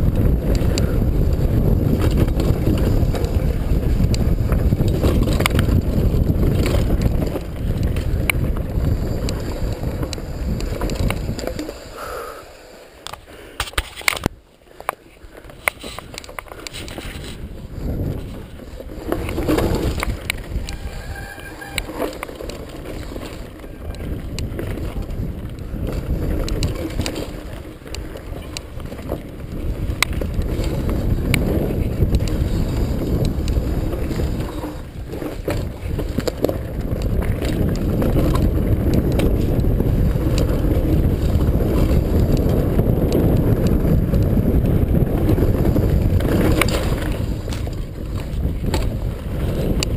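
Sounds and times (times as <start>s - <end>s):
tyres rumbling over dirt: 0.0s - 12.0s, 15.4s - 49.9s
wind buffeting microphone: 0.0s - 12.0s, 15.3s - 49.9s
bike rattling over bumps: 0.0s - 49.9s.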